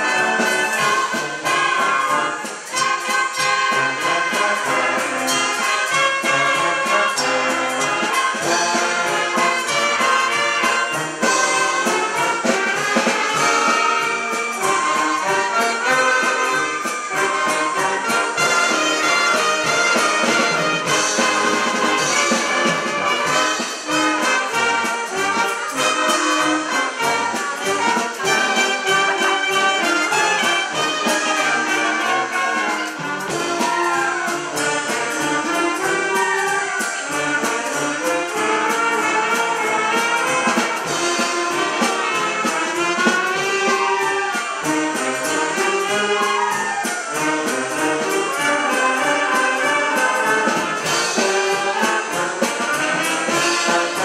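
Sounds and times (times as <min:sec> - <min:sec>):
wind band playing: 0:00.0 - 0:54.0.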